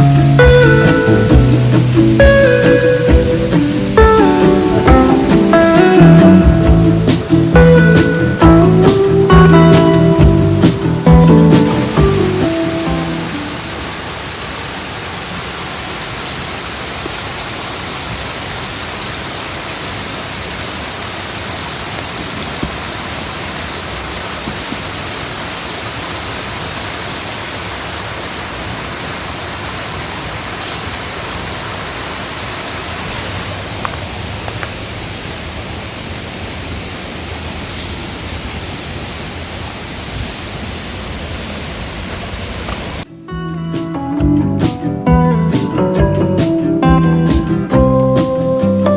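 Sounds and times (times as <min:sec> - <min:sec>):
stream rushing over rocks: 0:00.0 - 0:43.1.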